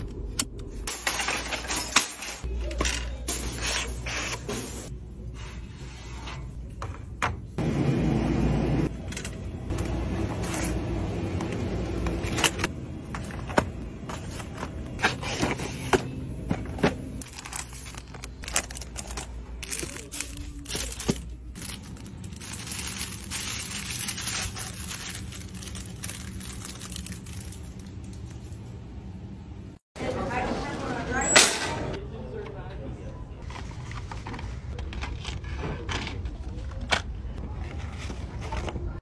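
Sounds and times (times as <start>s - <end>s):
low store hum: 0.0s - 39.0s.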